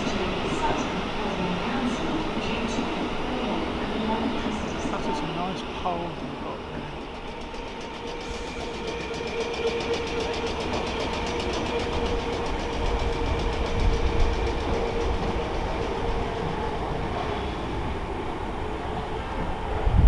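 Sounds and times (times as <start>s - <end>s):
steady tone from train: 0.0s - 20.0s
train rail rumble: 0.0s - 20.0s.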